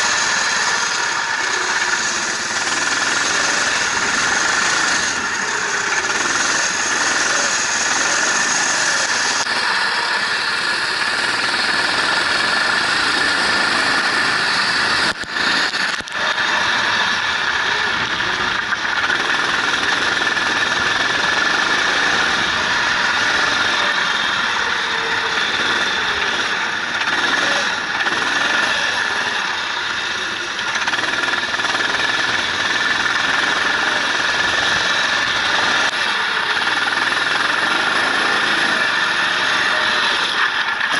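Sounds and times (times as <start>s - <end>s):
racing engine revving: 0.0s - 40.9s
wind and road noise: 0.0s - 40.9s.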